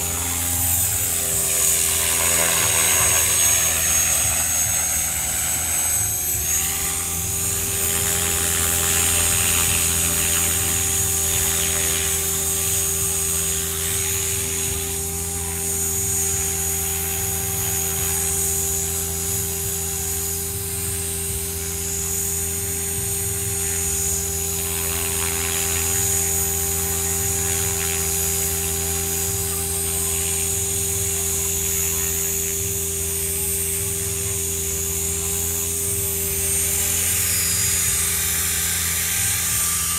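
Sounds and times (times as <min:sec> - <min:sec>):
rc helicopter hovering: 0:00.0 - 0:39.9.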